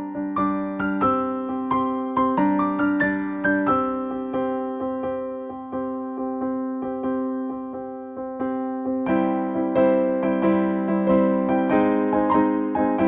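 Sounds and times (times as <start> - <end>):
soft electric piano music: 0.0 - 13.0.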